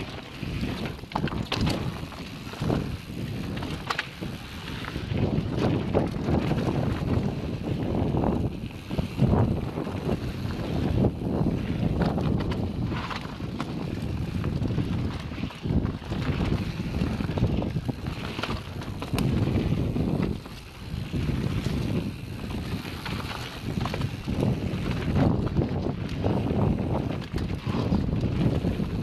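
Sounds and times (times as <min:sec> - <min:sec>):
bike rattles and clicks: 0:00.0 - 0:29.0
wind buffeting microphone: 0:00.0 - 0:29.0.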